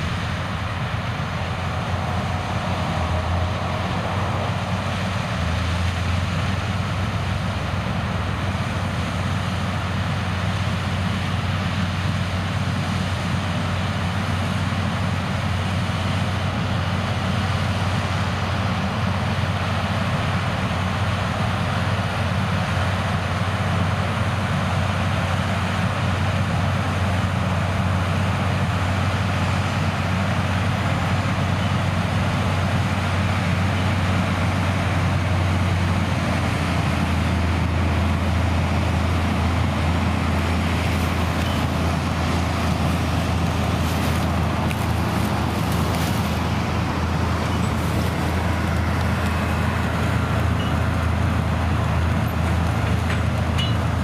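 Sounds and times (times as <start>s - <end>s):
harvesting machinery running: 0.0s - 54.0s.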